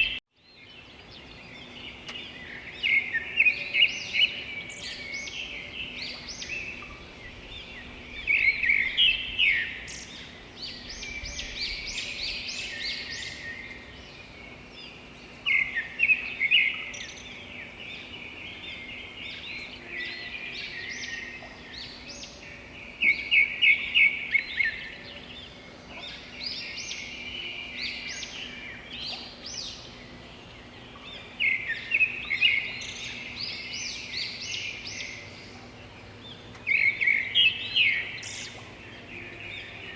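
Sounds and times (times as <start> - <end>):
quiet bird chirping: 0.0 - 39.9
songbirds singing: 0.0 - 39.9.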